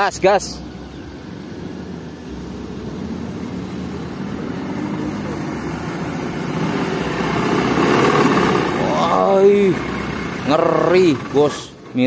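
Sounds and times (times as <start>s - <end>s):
diesel truck engine under throttle: 0.0s - 12.0s.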